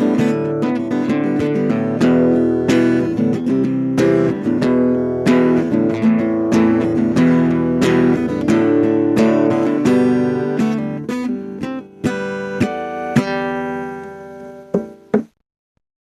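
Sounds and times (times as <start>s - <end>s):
acoustic guitar strummed blues: 0.0s - 15.3s.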